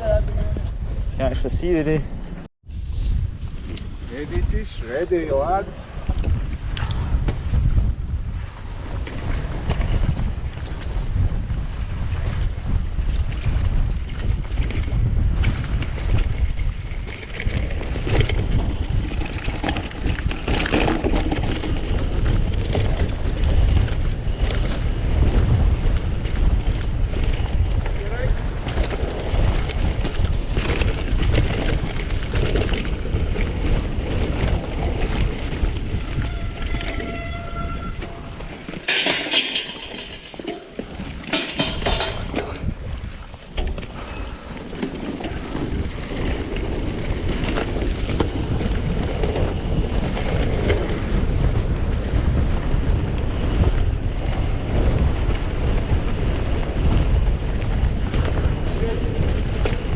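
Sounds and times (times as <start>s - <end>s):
wind rushing over microphone: 0.0s - 59.9s
bike rattling over ground: 3.4s - 59.9s.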